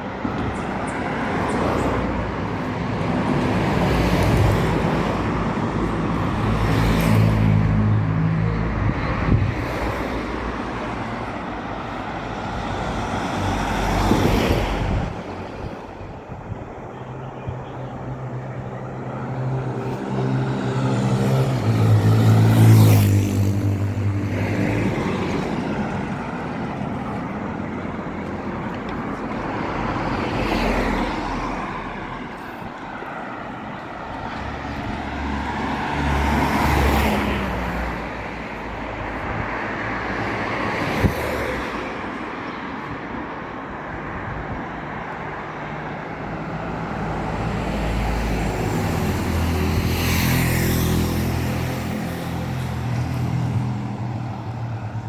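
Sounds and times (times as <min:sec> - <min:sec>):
vehicles passing close by: 0:00.0 - 0:55.0.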